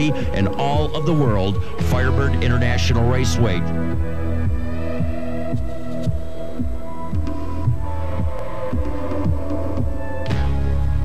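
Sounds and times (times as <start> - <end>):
deep beat: 0.0 - 11.0.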